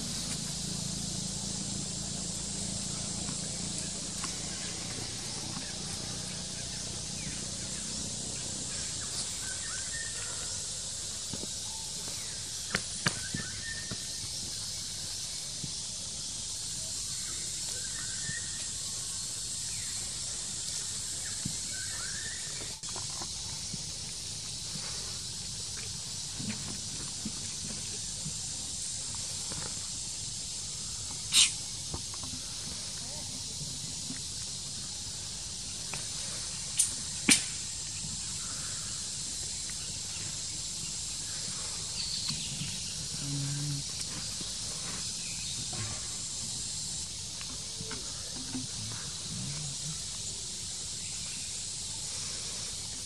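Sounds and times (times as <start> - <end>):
steady high hiss: 0.0 - 53.0.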